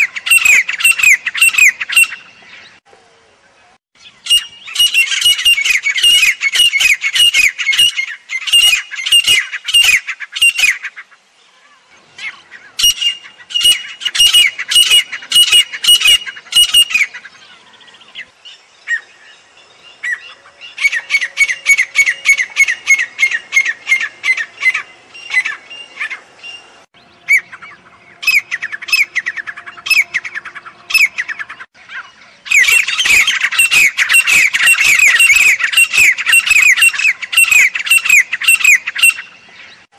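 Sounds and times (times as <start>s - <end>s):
francolin calling: 0.0s - 39.9s.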